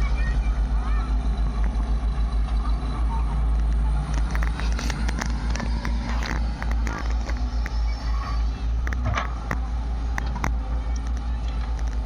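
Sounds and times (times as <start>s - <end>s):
diesel engine throbbing: 0.0s - 12.0s.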